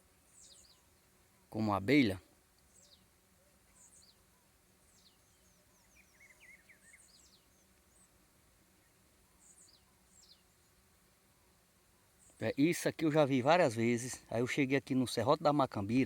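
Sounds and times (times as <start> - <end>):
beetles buzzing hum: 0.0 - 16.0.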